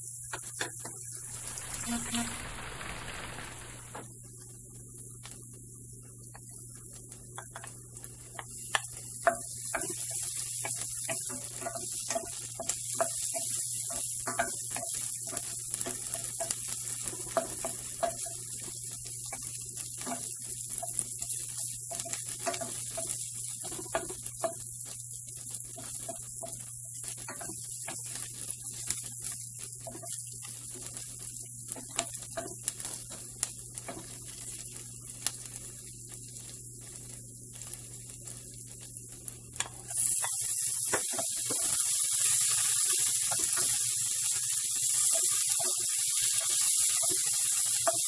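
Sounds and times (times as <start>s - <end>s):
onion and garlic sizzling in oil: 0.0s - 48.0s.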